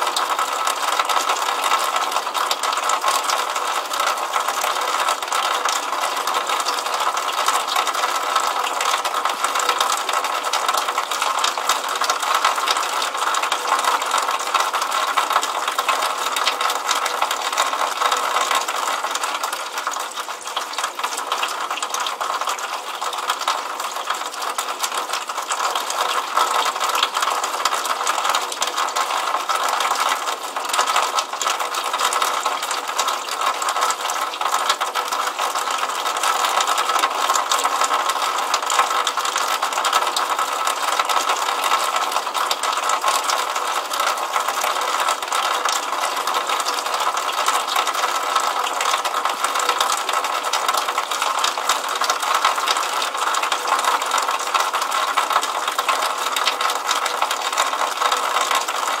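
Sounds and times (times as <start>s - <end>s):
water trickling into puddle: 0.0s - 59.0s.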